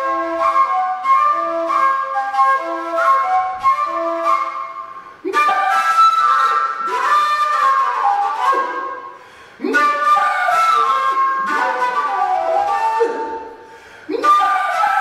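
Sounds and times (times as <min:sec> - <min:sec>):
flute music: 0:00.0 - 0:15.0.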